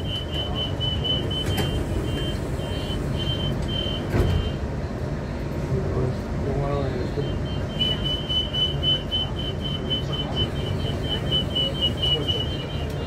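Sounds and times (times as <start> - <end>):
train humming: 0.0 - 13.0.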